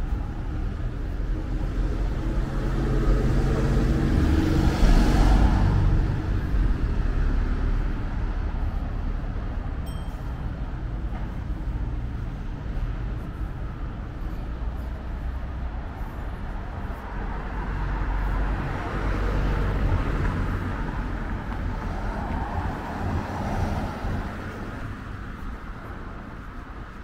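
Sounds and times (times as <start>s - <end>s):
road traffic rumble: 0.0s - 27.0s
vehicle passing: 0.3s - 9.8s, 10.7s - 27.0s.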